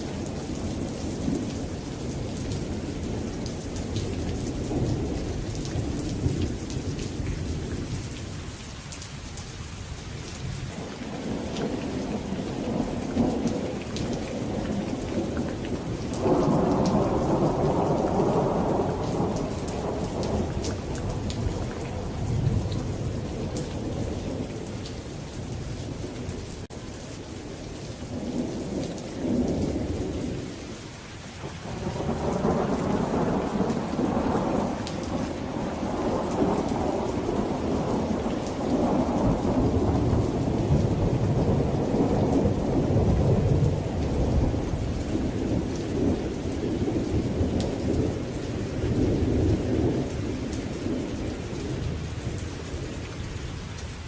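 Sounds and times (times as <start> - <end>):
thunder rumbling: 0.0 - 8.2, 10.8 - 26.7, 31.4 - 53.0
rain hissing and pattering: 0.0 - 54.0.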